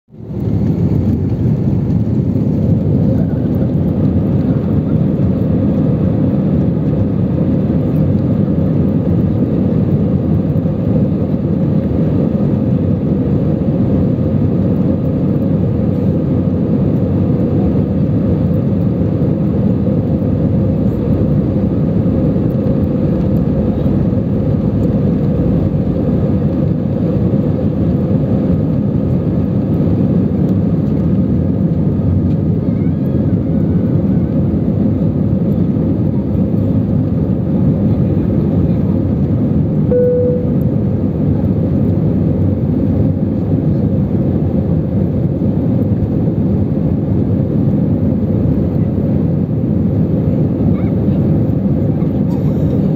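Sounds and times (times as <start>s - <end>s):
jet engines at takeoff thrust: 0.1s - 52.9s
wheels rumbling on runway: 0.1s - 52.9s.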